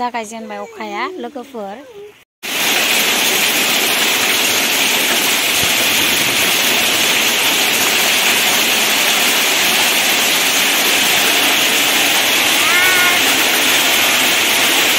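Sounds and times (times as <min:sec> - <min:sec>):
heavy rain splashing on water: 0:02.4 - 0:14.9.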